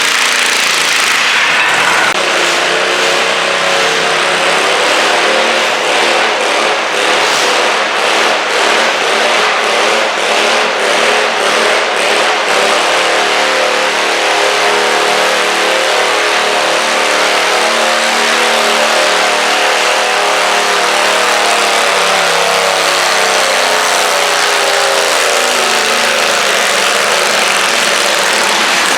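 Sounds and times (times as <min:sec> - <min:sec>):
tractor engine at high revs: 0:00.0 - 0:28.9.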